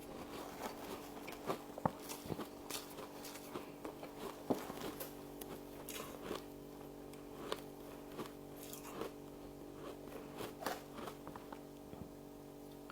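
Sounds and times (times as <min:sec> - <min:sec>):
person chewing crisp frost: 0:00.0 - 0:12.8
steady low hum: 0:00.0 - 0:12.9.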